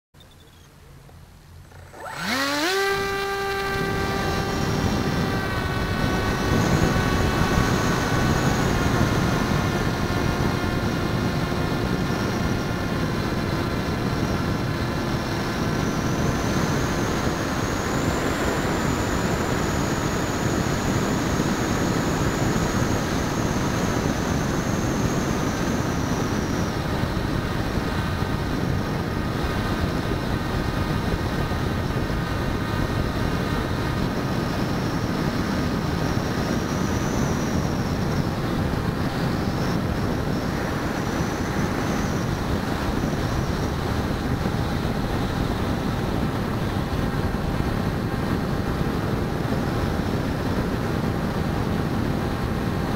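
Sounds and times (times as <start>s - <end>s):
model plane motor whine: 0.2s - 52.9s
wind rushing over camera: 0.2s - 52.9s.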